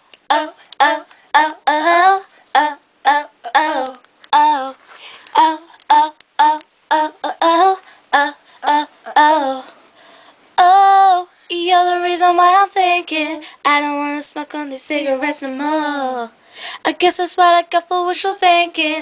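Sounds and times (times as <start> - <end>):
girl singing wordless syllables: 0.0 - 19.0.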